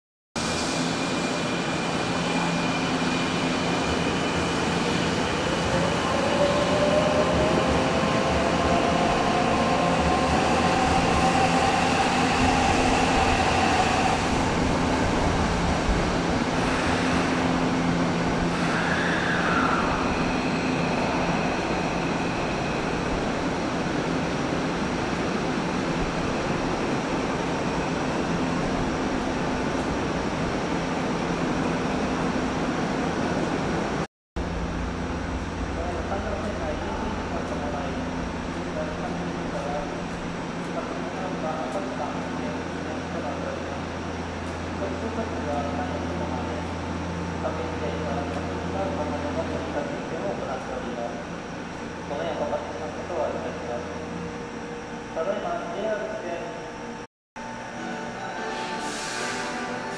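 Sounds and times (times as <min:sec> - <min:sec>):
train rumble and hum: 0:00.4 - 0:59.9.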